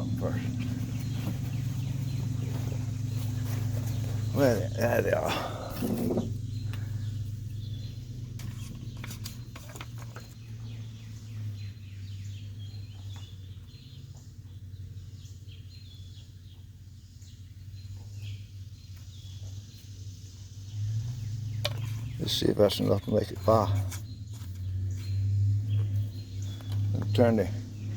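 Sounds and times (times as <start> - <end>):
small birds chirping: 0.0 - 27.9
steady low hum: 0.0 - 27.9.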